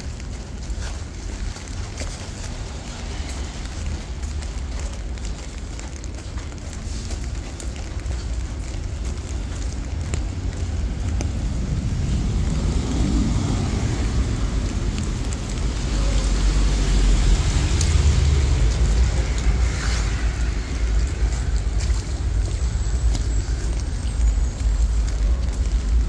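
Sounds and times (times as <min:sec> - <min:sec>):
cars passing on wet street: 0:00.0 - 0:26.0
steady rain hiss: 0:00.0 - 0:26.0.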